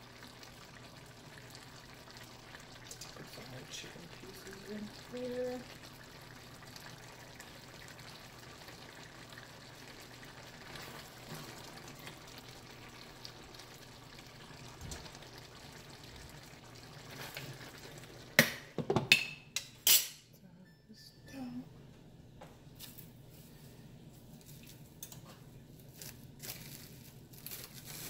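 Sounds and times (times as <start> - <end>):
stew simmering with faint sizzle: 0.0 - 20.0, 22.6 - 28.0.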